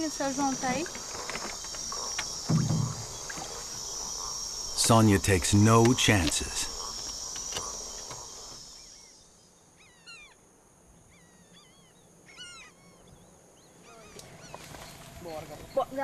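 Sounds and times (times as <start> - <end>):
birds calling: 0.0 - 16.0
insect chorus hiss: 0.0 - 16.0.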